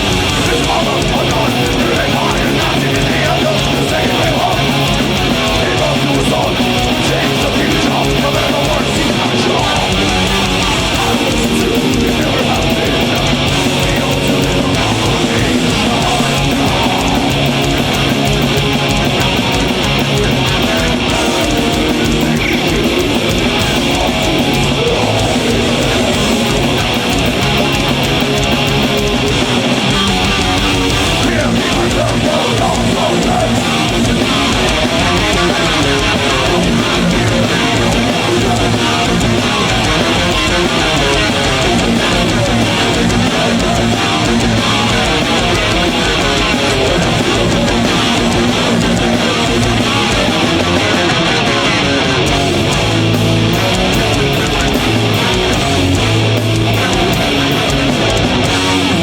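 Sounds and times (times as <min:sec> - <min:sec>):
bass: 0:00.0 - 0:59.0
distorted electric guitars: 0:00.0 - 0:59.0
drums: 0:00.0 - 0:59.0.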